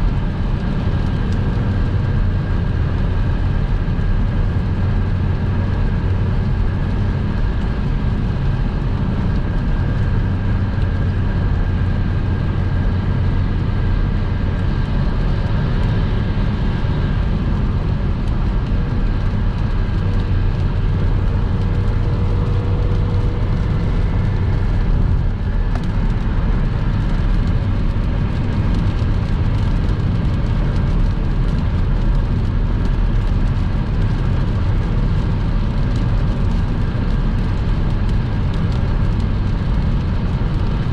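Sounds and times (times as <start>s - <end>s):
car engine and tyre noise: 0.0s - 40.9s.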